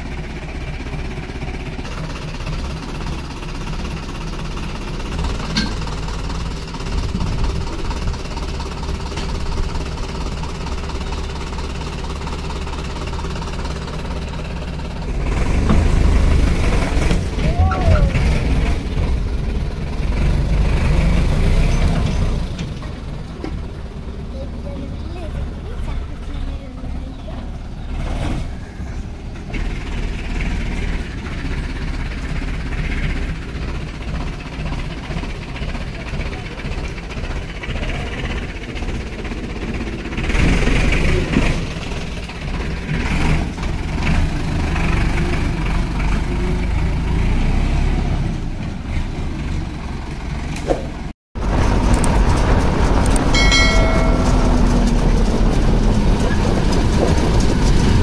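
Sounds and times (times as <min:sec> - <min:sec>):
tractor diesel engine rumbling: 0:00.0 - 0:58.0.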